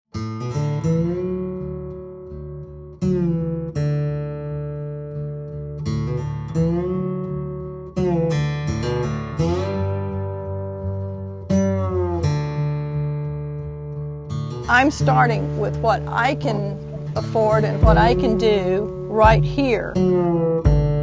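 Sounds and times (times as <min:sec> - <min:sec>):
slow acoustic guitar chords: 0:00.1 - 0:21.0.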